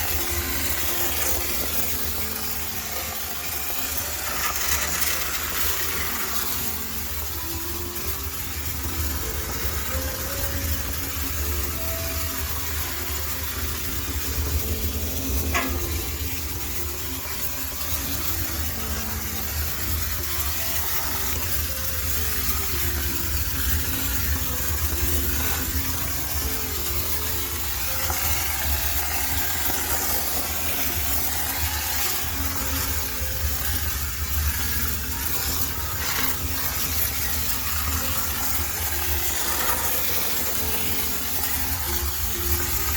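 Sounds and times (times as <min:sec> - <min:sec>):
low hum of steam unit: 0:00.0 - 0:42.9
steam hissing into drum: 0:00.0 - 0:42.9.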